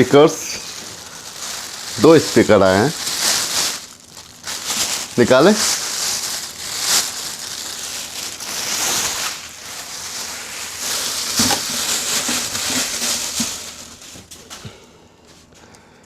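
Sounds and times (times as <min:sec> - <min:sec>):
packaging rustling and crinkling: 0:00.0 - 0:14.8.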